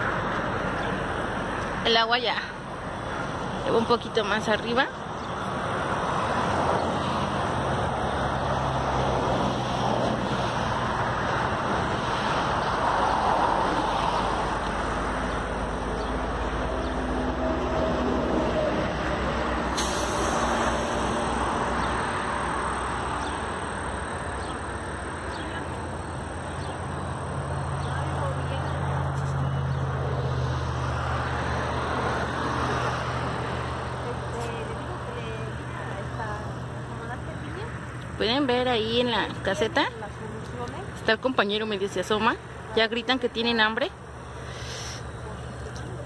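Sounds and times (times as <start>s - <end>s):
highway traffic rumble: 0.0s - 46.0s.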